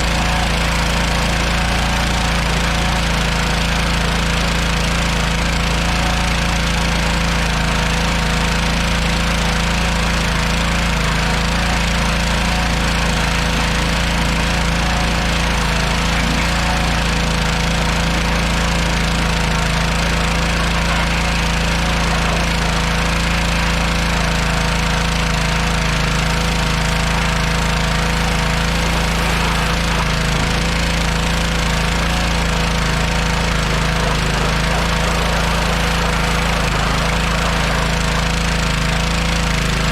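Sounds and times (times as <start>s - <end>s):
engine running with loud rattle: 0.0s - 39.9s.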